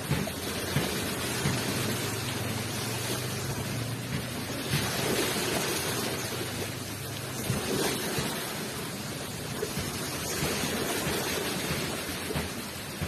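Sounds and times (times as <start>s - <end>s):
ocean waves rushing onto shore: 0.0s - 13.0s.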